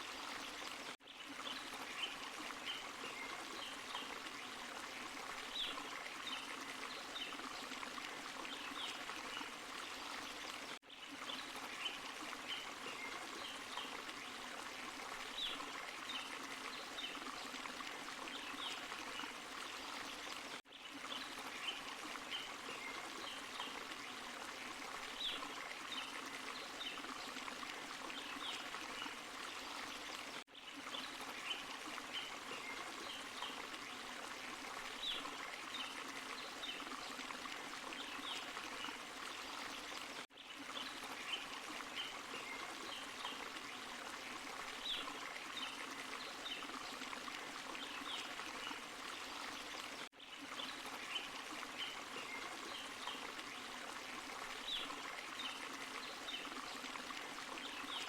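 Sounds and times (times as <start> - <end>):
stream flowing over rocks: 0.0 - 58.0
water splashes and plinks: 0.0 - 58.0.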